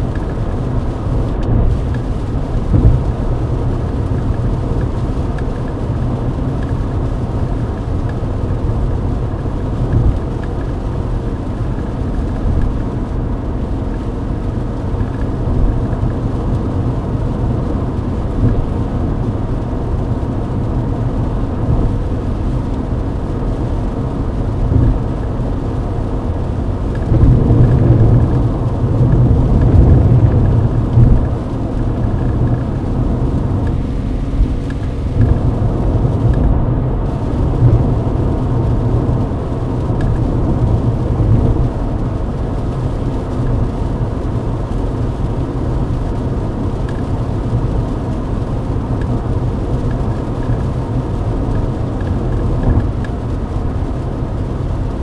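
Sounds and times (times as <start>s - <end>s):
hiss of spray and rain: 0.0s - 55.0s
tyres and engine rumble: 0.0s - 55.0s.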